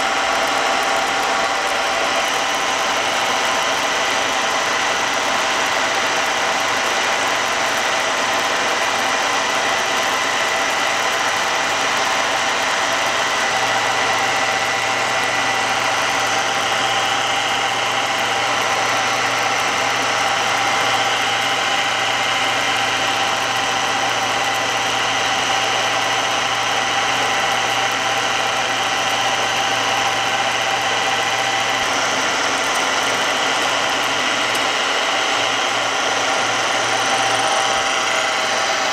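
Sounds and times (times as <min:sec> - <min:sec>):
milling machine cutting metal: 0:00.0 - 0:38.9
steady whine: 0:00.0 - 0:38.9.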